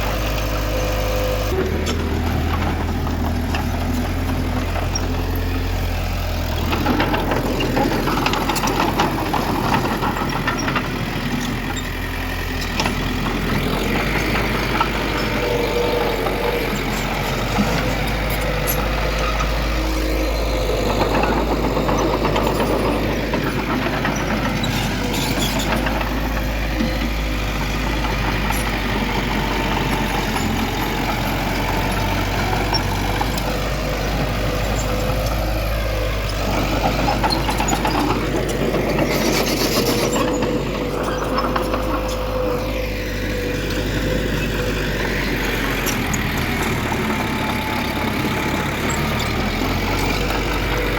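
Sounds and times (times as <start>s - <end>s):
heavy diesel machinery running: 0.0s - 50.9s.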